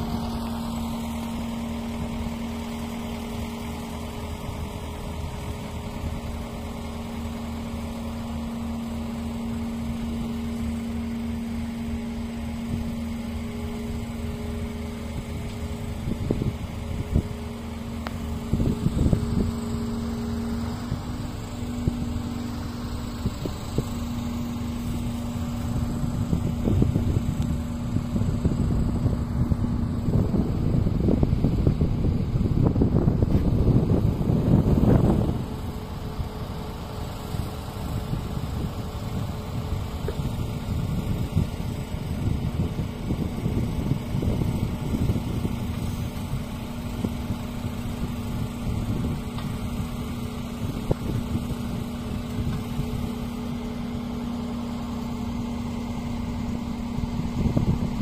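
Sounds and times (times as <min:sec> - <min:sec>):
crane engine humming: 0:00.0 - 0:58.0
wind buffeting the microphone: 0:00.0 - 0:58.0.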